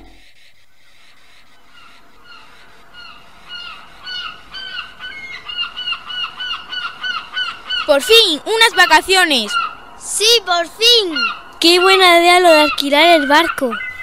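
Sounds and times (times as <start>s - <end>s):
birds calling: 0.9s - 14.0s.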